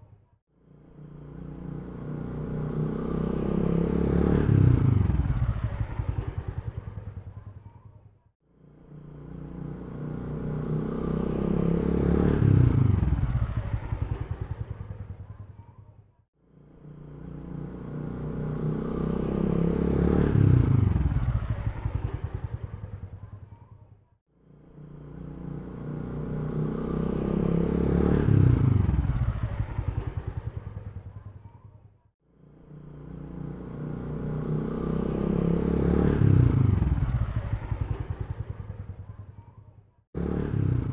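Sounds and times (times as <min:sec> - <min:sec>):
vehicle engine passing by: 0:00.7 - 0:07.4, 0:08.6 - 0:15.5, 0:16.5 - 0:23.5, 0:24.5 - 0:31.4, 0:32.4 - 0:39.4, 0:40.2 - 0:40.9.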